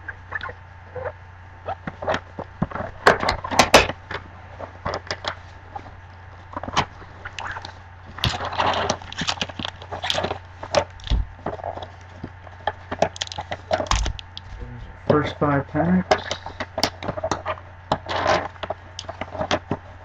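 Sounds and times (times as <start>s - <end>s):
card packs rustling: 1.9s - 20.0s.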